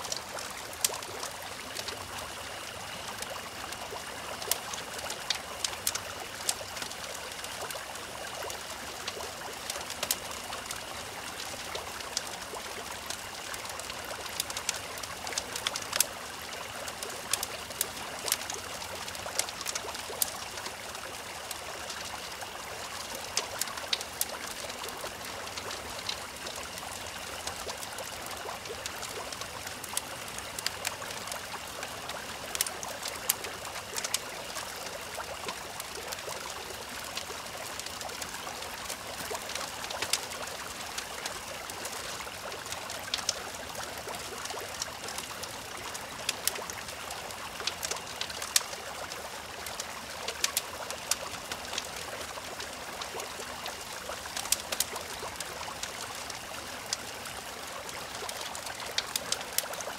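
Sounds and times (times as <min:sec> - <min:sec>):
brook trickling: 0:00.0 - 0:59.9
wood fire crackling: 0:00.0 - 0:59.9.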